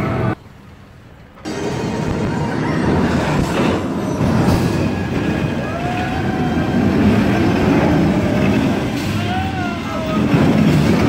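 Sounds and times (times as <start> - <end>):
roller coaster car on track: 0.0 - 11.0
wheel squeal: 1.5 - 11.0.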